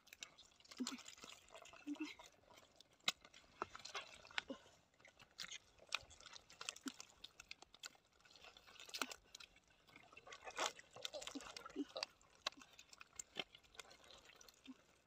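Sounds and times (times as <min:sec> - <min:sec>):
hands scooping wet clay squelching: 0:00.0 - 0:15.0.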